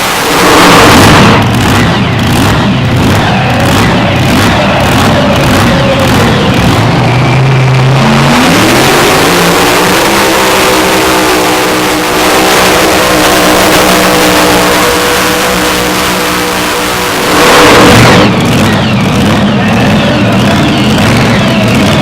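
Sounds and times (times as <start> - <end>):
tractor engine at full throttle: 0.0 - 22.0.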